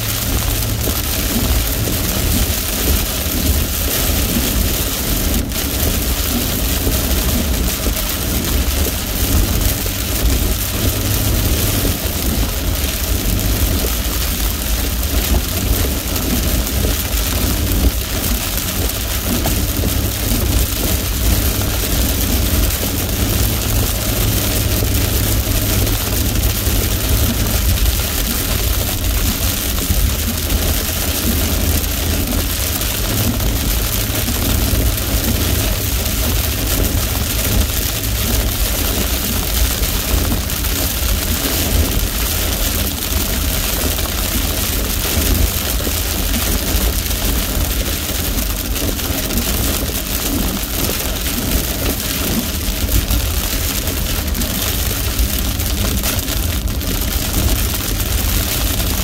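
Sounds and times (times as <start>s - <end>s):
heavy rain on a car: 0.0s - 59.0s
low road and engine rumble: 0.0s - 59.0s.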